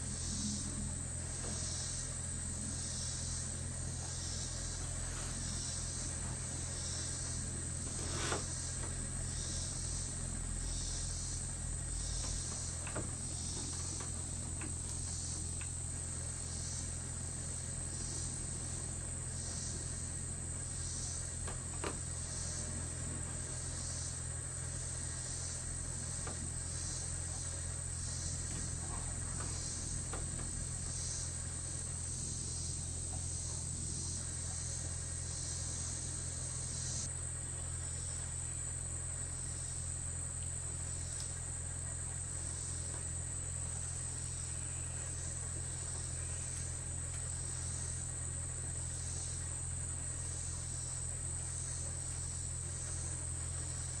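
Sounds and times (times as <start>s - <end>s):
insects chirping: 0.0s - 54.0s
insects droning: 0.0s - 54.0s
low hum: 0.0s - 54.0s.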